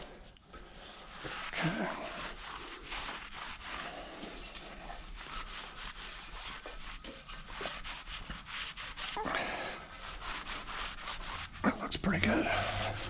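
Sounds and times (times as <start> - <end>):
rubbing on wheel rim: 0.0 - 13.0.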